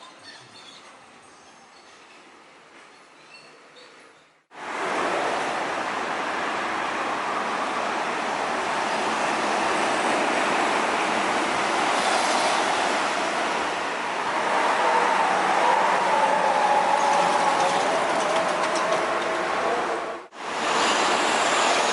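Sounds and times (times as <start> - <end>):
heavy traffic road noise: 4.3 - 21.9.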